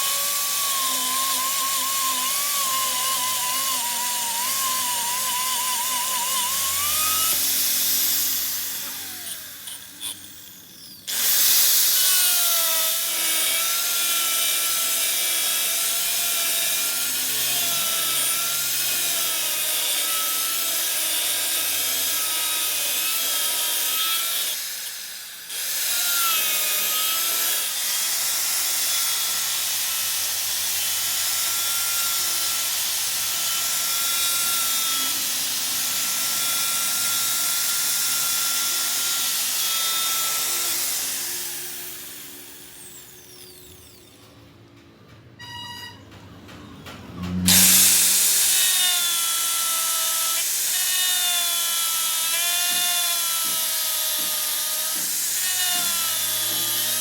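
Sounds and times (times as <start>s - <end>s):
machine tool cutting metal: 0.0s - 44.4s, 47.3s - 57.0s.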